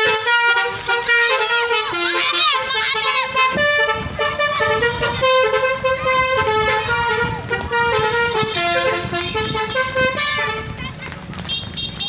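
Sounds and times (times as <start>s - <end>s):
musical air horn melody: 0.0s - 10.8s.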